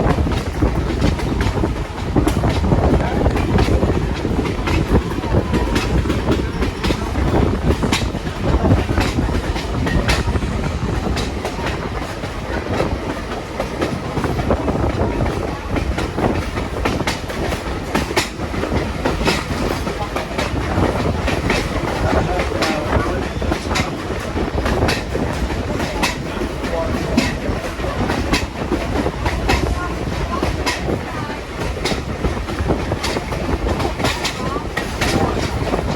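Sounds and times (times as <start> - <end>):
train low rumble: 0.0 - 35.9
wheels clacking over rails: 0.0 - 35.9.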